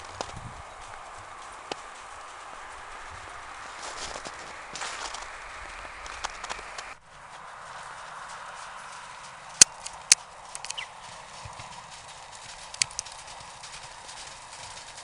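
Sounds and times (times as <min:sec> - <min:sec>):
horses galloping through snow: 0:00.0 - 0:15.0.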